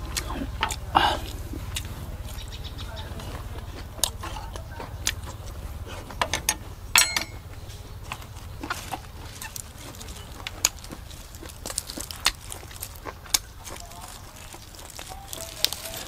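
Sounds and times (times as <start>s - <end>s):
chewing crisp vegetables: 0.0s - 16.0s
low steady hum: 0.0s - 16.0s.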